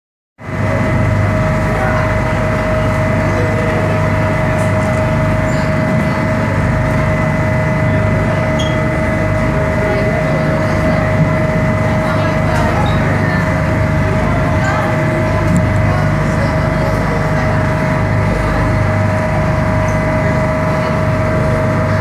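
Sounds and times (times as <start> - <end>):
boat engine droning: 0.4 - 22.0.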